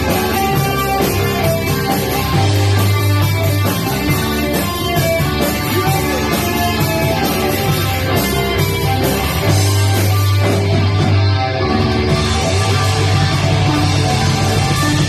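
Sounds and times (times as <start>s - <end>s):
rock music with guitar: 0.0s - 15.0s.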